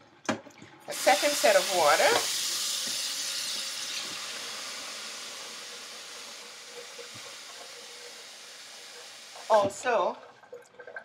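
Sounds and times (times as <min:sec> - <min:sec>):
tap water running into bowl: 0:00.2 - 0:11.0.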